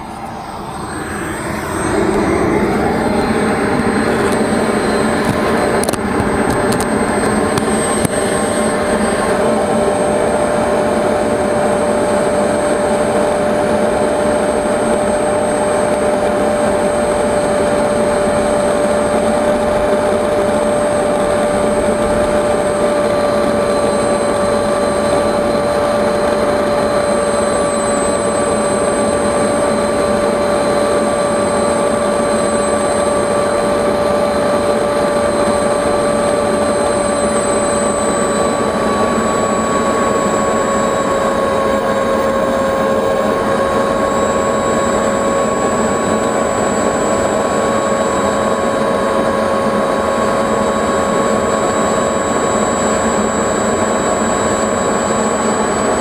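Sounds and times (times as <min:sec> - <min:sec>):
model jet turbine whine: 0:00.0 - 0:56.0.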